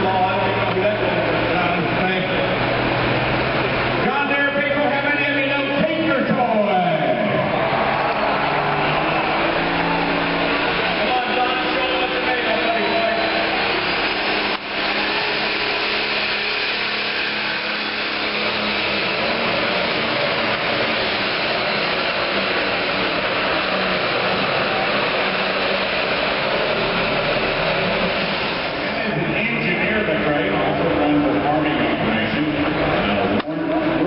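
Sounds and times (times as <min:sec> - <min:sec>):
diesel engine running hard: 0:00.0 - 0:34.0.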